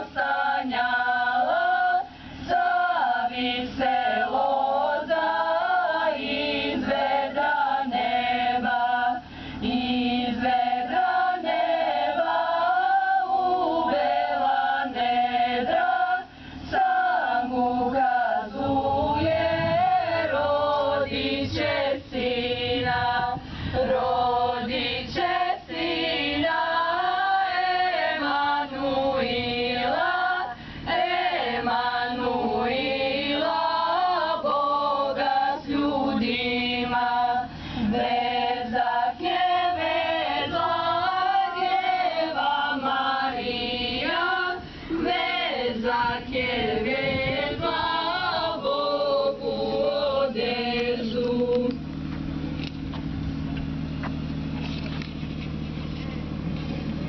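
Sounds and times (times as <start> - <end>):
women's choir singing: 0.0 - 51.8.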